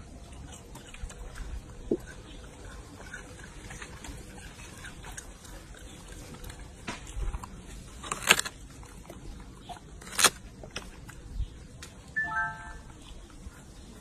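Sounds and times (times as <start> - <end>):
monkey biting watermelon: 0.0 - 11.2.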